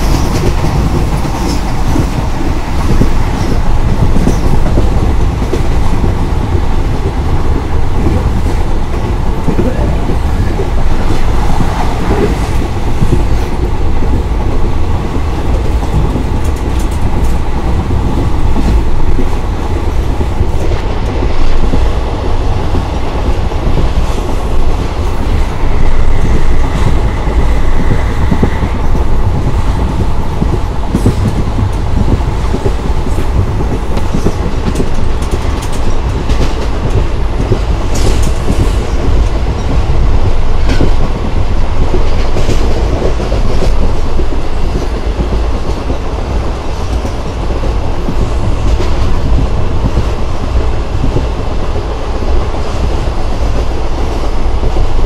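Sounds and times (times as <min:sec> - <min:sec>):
clickety-clack of rail joints: 0:00.0 - 0:55.0
train wheels rumbling on rail: 0:00.0 - 0:55.0.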